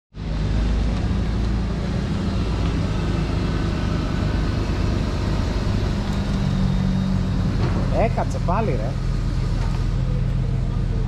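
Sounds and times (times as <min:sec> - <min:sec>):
car engine running at low revs: 0:00.2 - 0:11.0.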